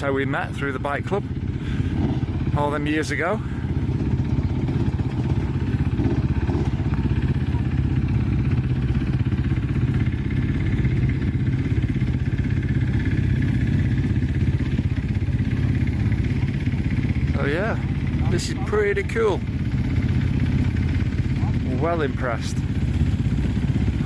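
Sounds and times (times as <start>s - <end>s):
dirt bike engines idling: 0.0s - 24.0s.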